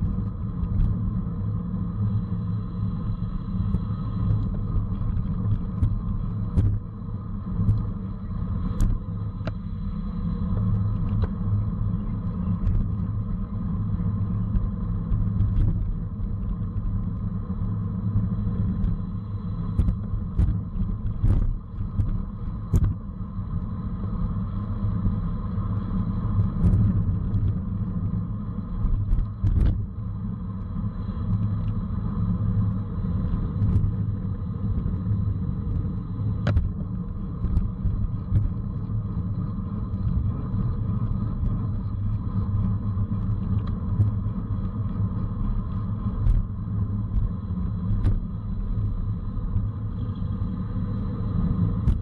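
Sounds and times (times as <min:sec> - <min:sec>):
bicycle road rumble: 0:00.0 - 0:52.0
wind rushing over microphone: 0:00.0 - 0:52.0.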